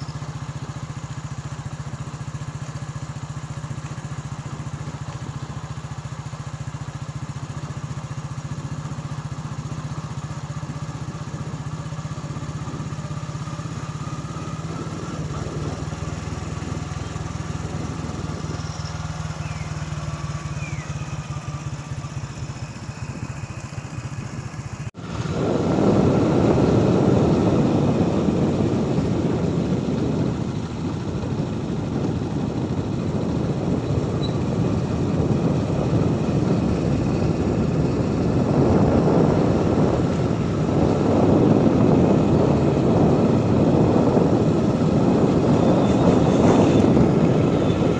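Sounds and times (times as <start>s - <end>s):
motorcycle engine humming: 0.0s - 47.9s
road noise: 0.0s - 47.9s
wind buffeting microphone: 0.0s - 47.9s.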